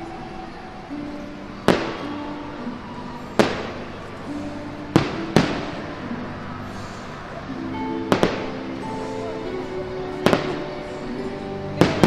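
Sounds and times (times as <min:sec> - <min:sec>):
music with held notes: 0:00.0 - 0:12.0.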